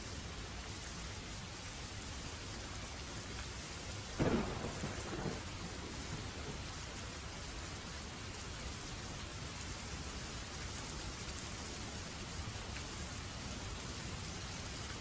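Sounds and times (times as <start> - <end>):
steady rainfall hiss: 0.0 - 15.0.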